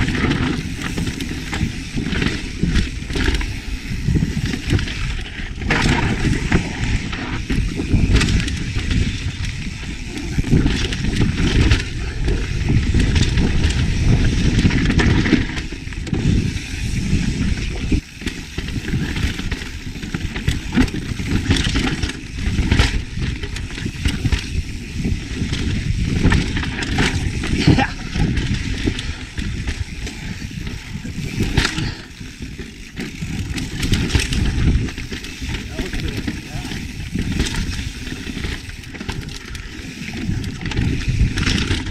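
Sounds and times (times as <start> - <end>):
bike knocking and rattling: 0.0 - 41.9
wind buffeting microphone: 0.0 - 41.9.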